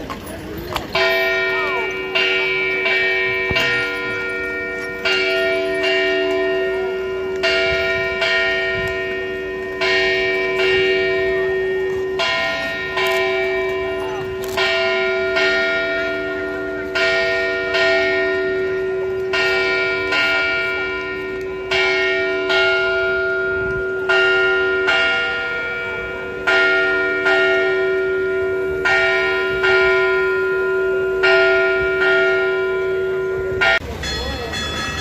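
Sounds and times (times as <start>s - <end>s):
church bells ringing: 0.0s - 35.0s.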